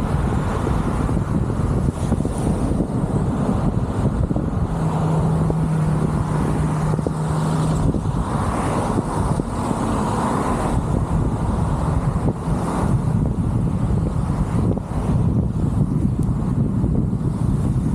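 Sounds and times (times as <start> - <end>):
surrounding traffic: 0.0 - 17.9
tyre and road noise: 0.0 - 17.9.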